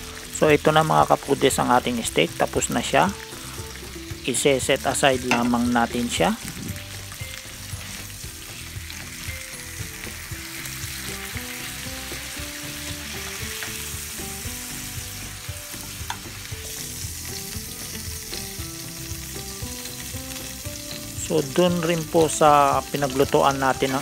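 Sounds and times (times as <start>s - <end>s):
steaks sizzling in a pan: 0.0s - 24.0s.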